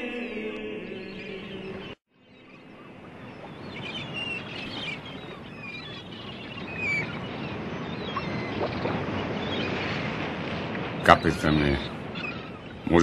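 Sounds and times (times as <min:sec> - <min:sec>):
birds chirping: 0:00.1 - 0:13.0
rushing sea water: 0:02.1 - 0:13.0.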